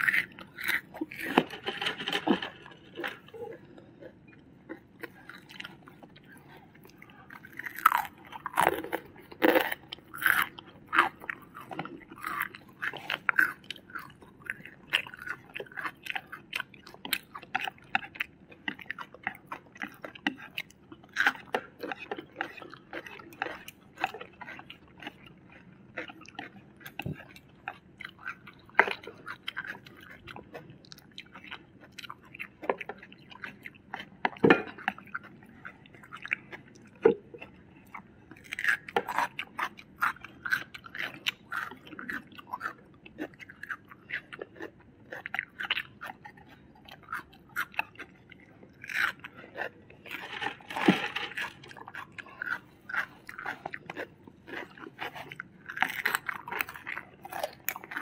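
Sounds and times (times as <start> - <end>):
people chewing and crunching food: 0.0 - 58.0.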